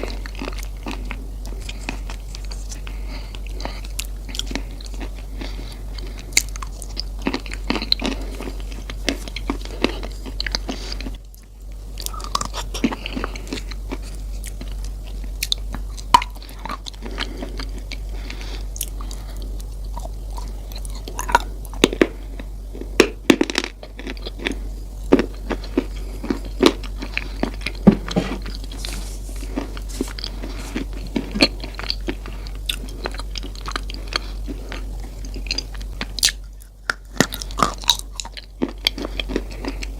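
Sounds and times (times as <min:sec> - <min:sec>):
crunchy chewing of brittle food: 0:00.0 - 0:39.9
steady low hum: 0:00.0 - 0:39.9.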